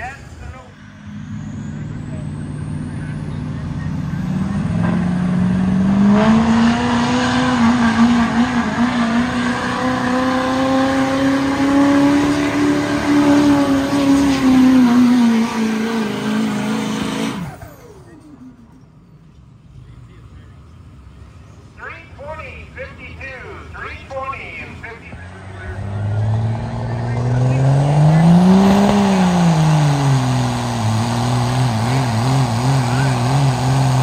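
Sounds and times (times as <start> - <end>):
engine revving at full throttle: 0.0 - 18.4, 24.8 - 34.0.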